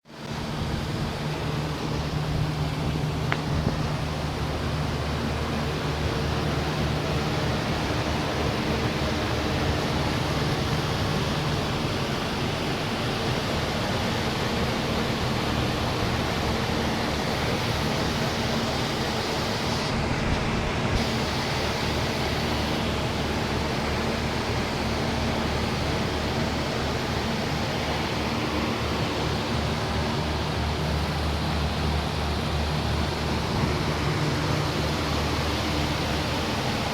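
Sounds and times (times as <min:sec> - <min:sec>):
fan air rushing: 0:00.0 - 0:36.9.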